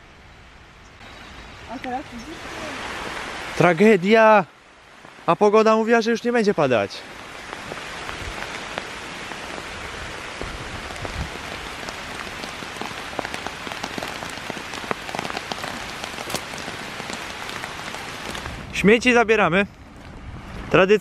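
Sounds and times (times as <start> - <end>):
steady rain falling: 0.0 - 21.0
raindrops ticking on a surface: 1.0 - 18.7.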